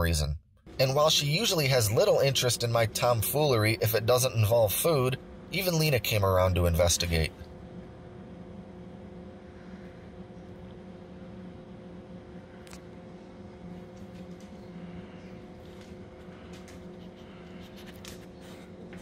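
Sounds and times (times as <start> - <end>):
cooling fan whirring: 0.0 - 19.0.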